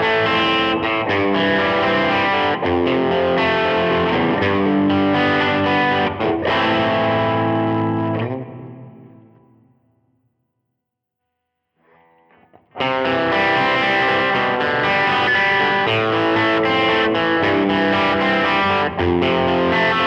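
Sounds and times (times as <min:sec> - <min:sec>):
overdriven electric guitar: 0:00.0 - 0:09.7, 0:11.8 - 0:20.0.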